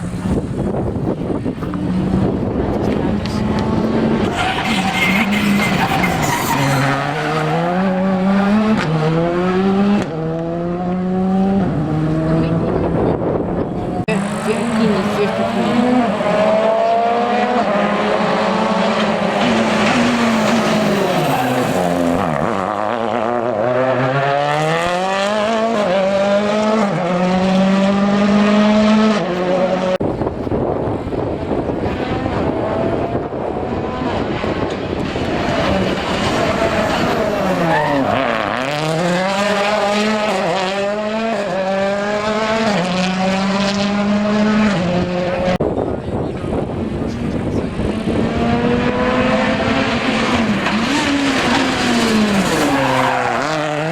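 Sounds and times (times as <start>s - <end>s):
rally car engine revving: 0.0s - 53.9s.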